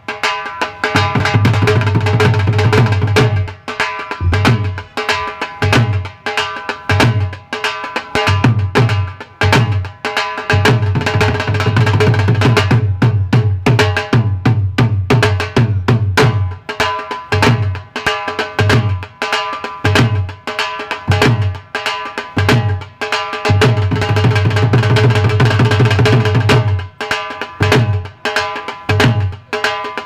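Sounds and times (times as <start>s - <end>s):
dhol drum beaten fast: 0.0s - 30.0s.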